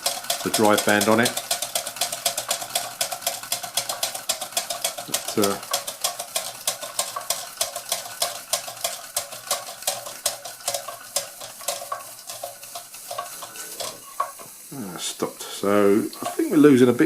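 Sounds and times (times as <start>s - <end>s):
toy steam engine clicking: 0.0s - 17.0s.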